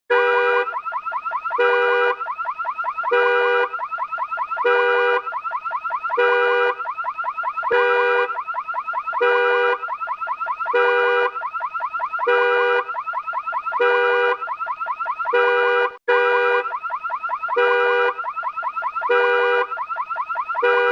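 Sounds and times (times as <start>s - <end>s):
car alarm blaring and chirping: 0.1s - 20.9s.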